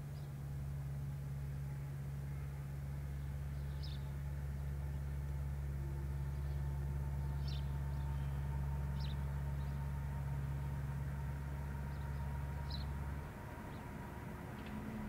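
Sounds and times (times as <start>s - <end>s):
train running with low hum: 0.0s - 15.0s.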